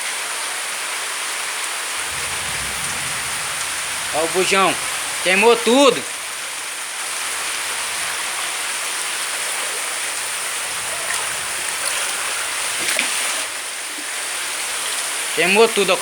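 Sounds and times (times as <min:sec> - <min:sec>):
rushing water: 0:01.3 - 0:16.0.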